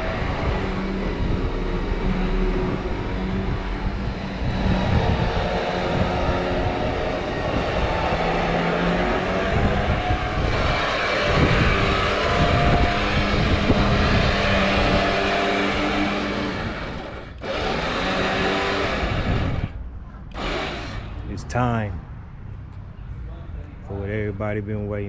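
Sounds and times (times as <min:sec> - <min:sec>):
vehicle engine running: 0:00.0 - 0:21.4
loud rushing noise: 0:00.0 - 0:22.6.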